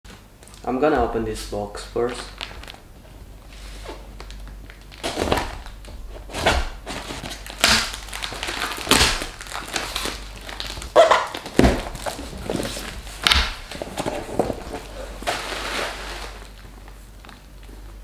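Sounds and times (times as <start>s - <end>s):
packing tape peeling and crinkling: 2.1s - 2.8s, 3.9s - 18.0s
loud plastic crackles: 2.1s - 2.9s, 3.9s - 18.0s.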